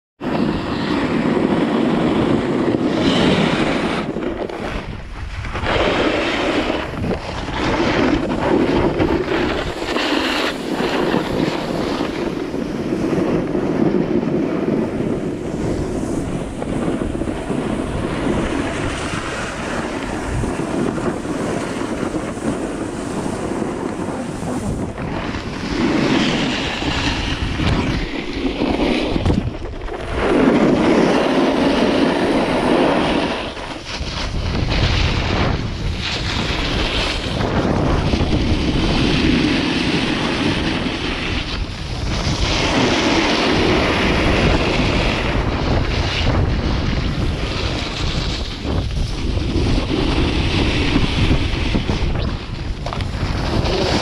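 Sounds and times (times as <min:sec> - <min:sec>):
snowboard scraping over snow: 0:00.2 - 0:54.0
wind on microphone: 0:00.2 - 0:54.0.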